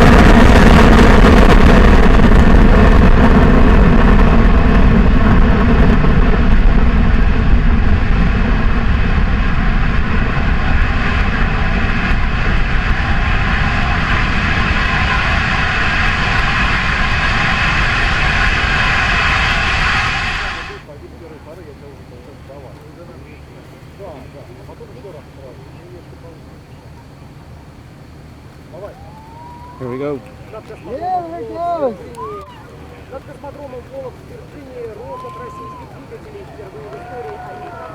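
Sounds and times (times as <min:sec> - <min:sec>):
rocket engines roaring: 0:00.0 - 0:37.9.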